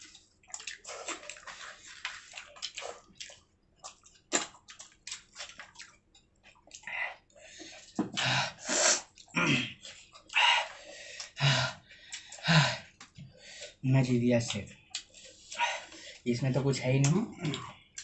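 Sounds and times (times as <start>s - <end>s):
chewing: 0.0s - 8.3s, 9.0s - 11.4s, 12.0s - 13.8s, 14.4s - 16.3s, 17.2s - 18.0s
wet squelching of eating by hand: 0.0s - 13.8s, 14.4s - 18.0s.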